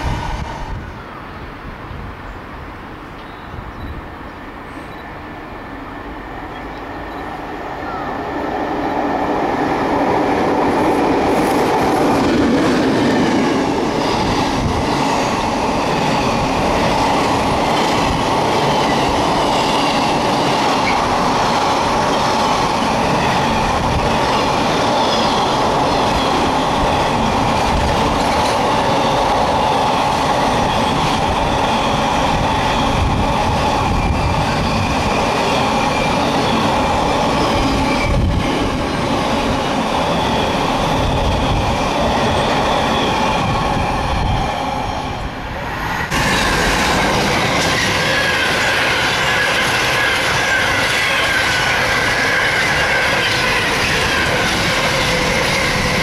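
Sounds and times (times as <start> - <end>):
freight train passing: 0.0 - 56.0.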